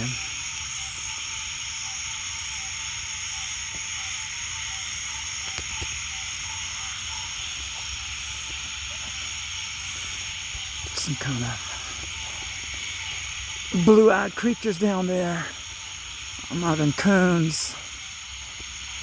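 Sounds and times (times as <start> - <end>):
frogs: 0.0 - 19.0
insects ringing drone: 0.0 - 19.0.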